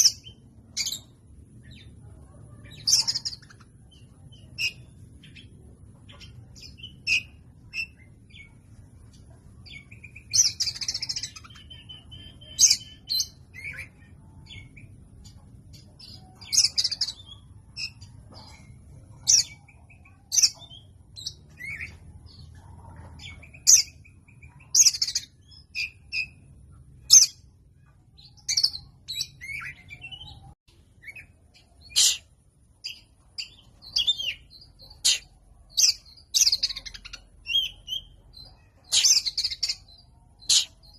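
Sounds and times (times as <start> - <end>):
faint low hum: 0.0 - 40.9
magpie-robin chirps and warbles: 0.0 - 40.9.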